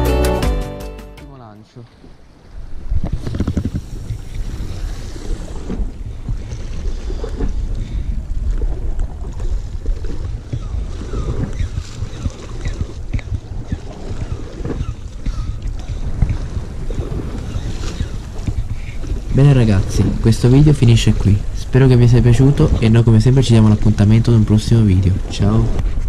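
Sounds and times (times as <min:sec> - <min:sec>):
sea washing against rocks: 0:01.6 - 0:26.0
wind buffeting microphone: 0:01.6 - 0:26.0.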